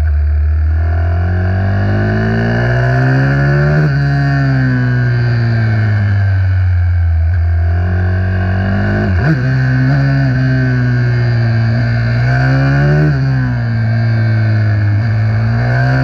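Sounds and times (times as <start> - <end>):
motorcycle engine revving high: 0.0 - 16.0.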